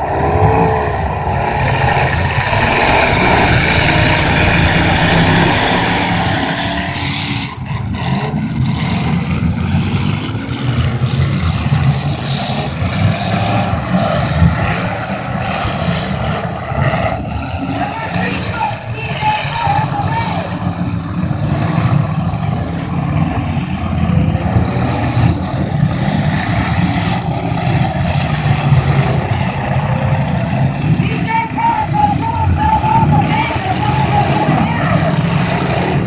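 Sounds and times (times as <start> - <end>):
car engines revving hard: 0.0 - 36.0.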